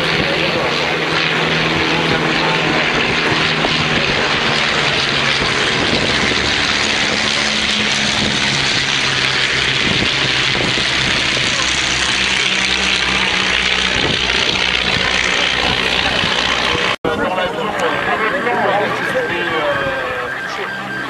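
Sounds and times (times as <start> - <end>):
propeller aircraft engine drone: 0.0 - 21.0.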